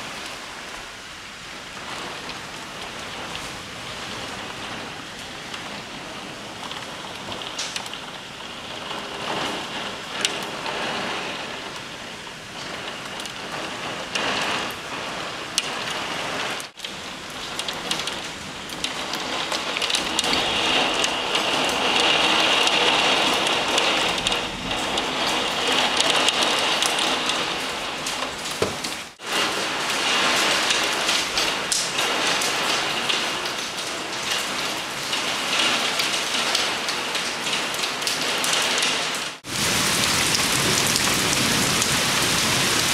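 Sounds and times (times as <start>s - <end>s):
heavy rain hiss: 0.0s - 42.9s.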